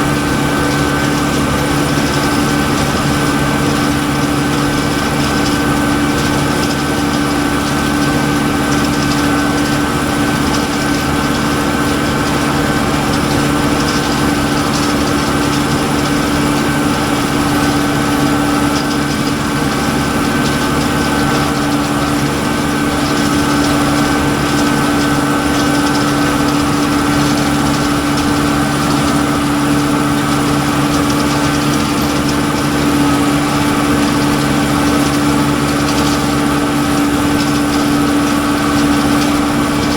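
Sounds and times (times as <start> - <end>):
steady whine: 0.0 - 39.9
tractor engine drone: 0.0 - 39.9.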